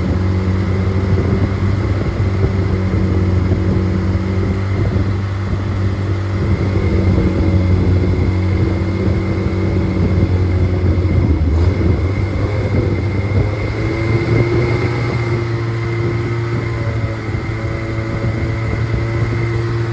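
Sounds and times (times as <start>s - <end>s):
car engine running: 0.0s - 19.9s
thin steady whine: 0.0s - 19.9s.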